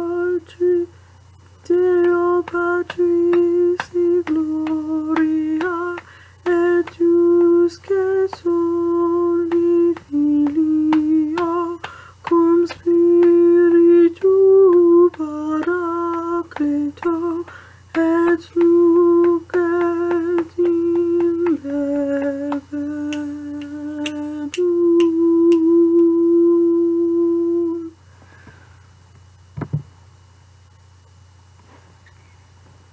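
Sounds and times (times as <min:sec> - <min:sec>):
woman singing slow melody: 0:00.0 - 0:01.0, 0:01.6 - 0:28.0.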